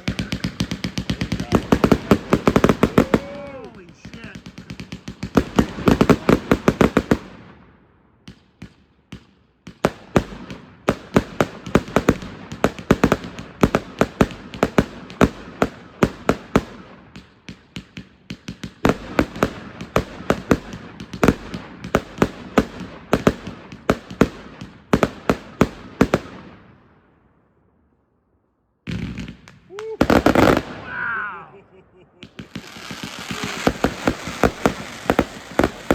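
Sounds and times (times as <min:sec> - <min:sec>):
fireworks cracking rapidly: 0:00.0 - 0:07.5, 0:09.7 - 0:26.5, 0:28.9 - 0:35.9.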